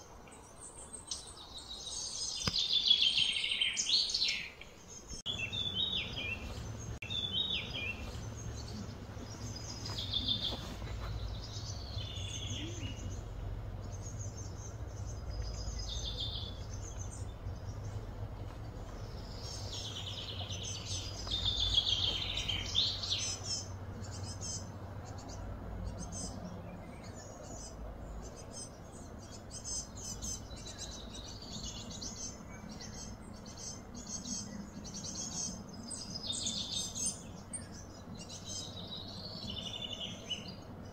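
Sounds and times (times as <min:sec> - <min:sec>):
birds chirping and trilling: 0:00.0 - 0:40.9
low steady hum: 0:04.6 - 0:40.9.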